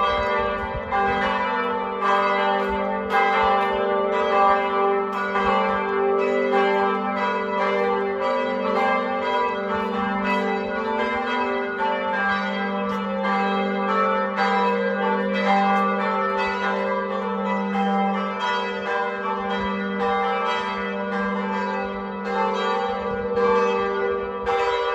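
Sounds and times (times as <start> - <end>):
church bells ringing: 0.0 - 24.9.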